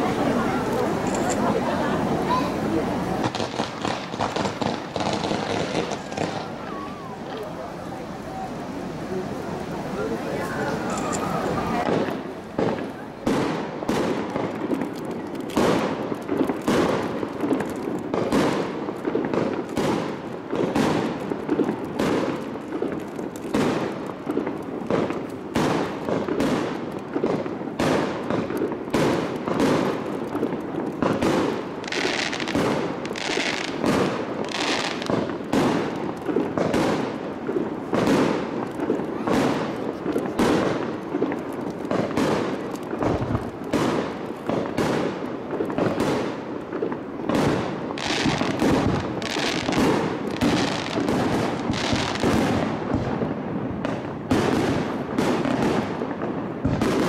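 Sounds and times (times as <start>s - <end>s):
fireworks launching and bursting: 0.0s - 57.0s.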